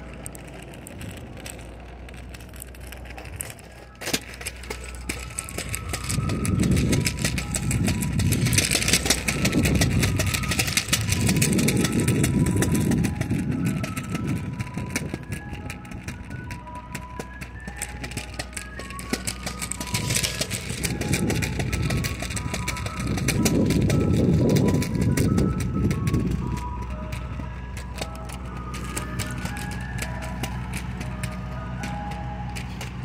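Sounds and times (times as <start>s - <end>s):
street ambience: 0.0s - 33.0s.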